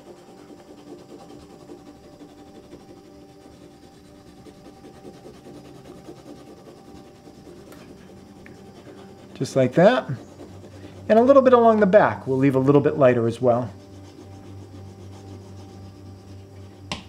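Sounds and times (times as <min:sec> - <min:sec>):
crayon scratching on paper: 0:00.0 - 0:16.9.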